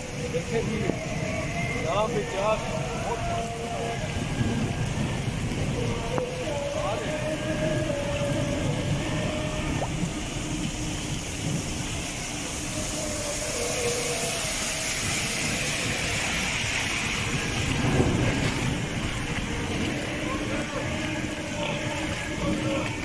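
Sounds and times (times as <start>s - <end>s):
steady rain hiss: 0.0s - 23.0s
tyres swishing through water: 0.0s - 23.0s.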